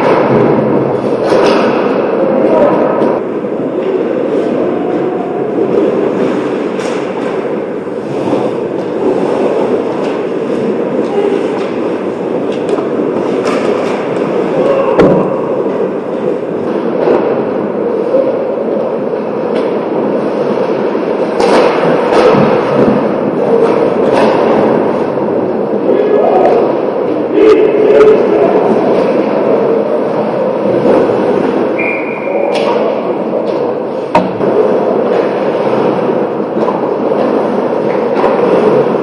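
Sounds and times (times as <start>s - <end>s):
hockey sticks and puck clacking: 0.0s - 25.5s, 28.8s - 39.0s.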